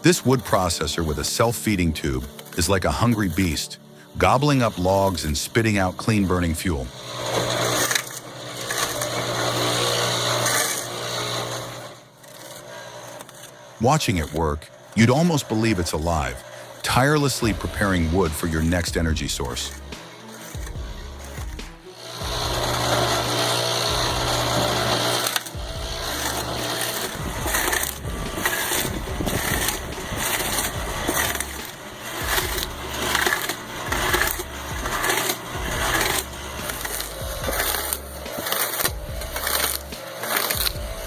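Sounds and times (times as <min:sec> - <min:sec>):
background music with steady beat: 0:00.0 - 0:41.0
firewood processor cutting logs: 0:00.0 - 0:41.0.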